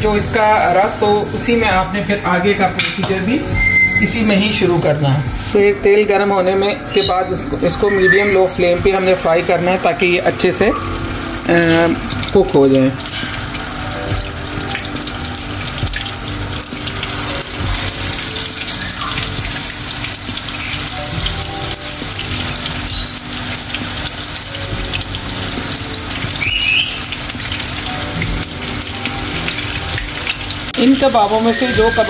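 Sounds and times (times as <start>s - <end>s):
patties sizzling in hot oil: 0.0s - 32.0s.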